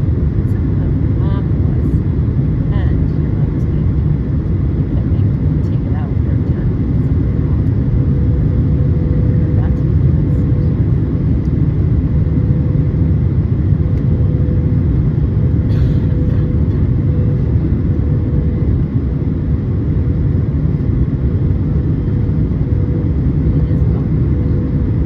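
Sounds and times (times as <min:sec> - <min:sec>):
jet engine and airflow rumble: 0:00.0 - 0:25.0
steady hum: 0:00.0 - 0:25.0.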